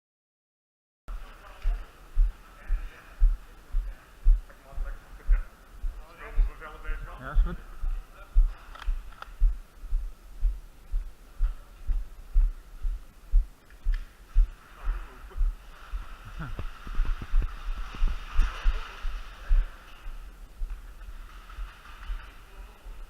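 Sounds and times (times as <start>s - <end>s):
dull low thumps: 1.1s - 20.8s
faint distant voices: 1.1s - 23.0s.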